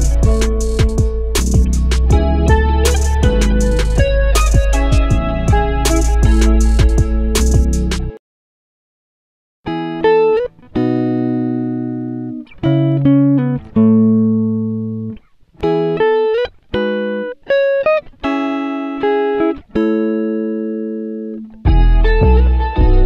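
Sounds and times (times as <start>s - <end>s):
plucked guitar notes and chords: 0.0s - 8.2s, 9.7s - 23.0s.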